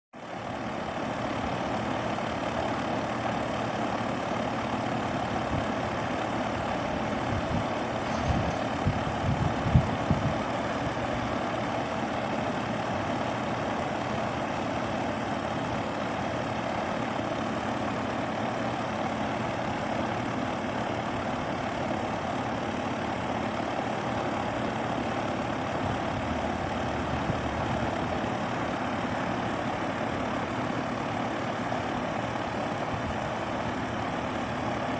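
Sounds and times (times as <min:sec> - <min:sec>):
heat pump humming: 0:00.2 - 0:34.9.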